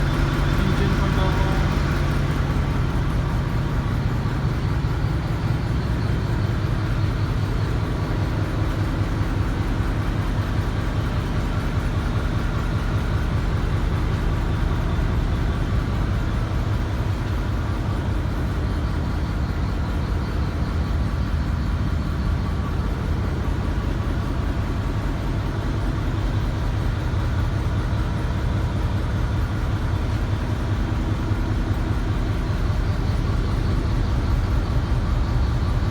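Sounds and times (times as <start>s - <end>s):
ship engine droning: 0.0s - 35.9s.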